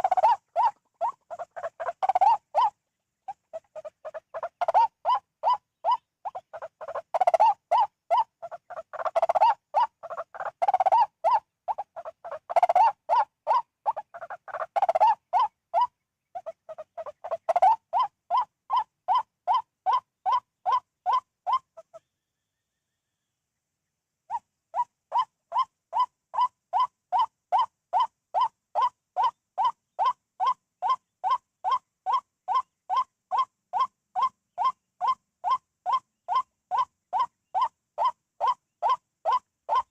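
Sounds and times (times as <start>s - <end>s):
waterhen harsh calls: 0.0s - 22.0s, 24.3s - 39.9s.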